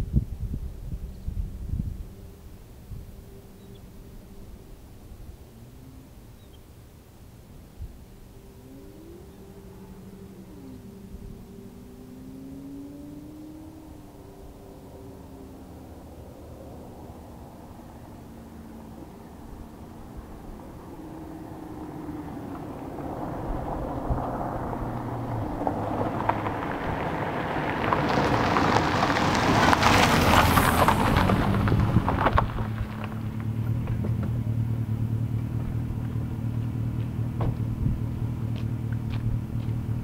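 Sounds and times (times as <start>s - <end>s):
car exhaust accelerating: 0.0s - 40.0s.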